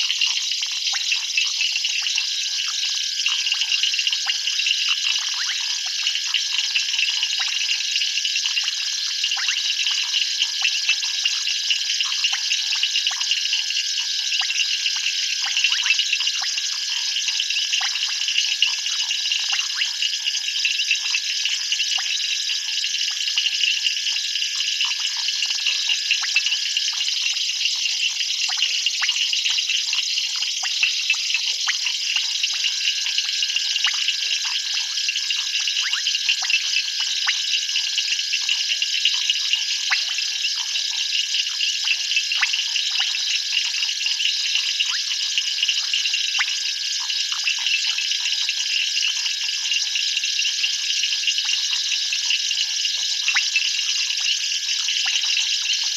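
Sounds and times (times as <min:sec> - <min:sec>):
insects and frogs trilling: 0:00.0 - 0:55.9.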